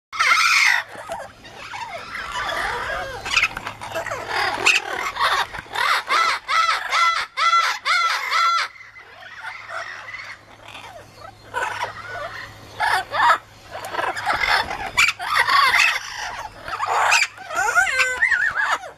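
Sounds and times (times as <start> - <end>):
parrot repeated arched calls: 0.2 - 18.9
parrots screaming and squawking: 0.2 - 18.9.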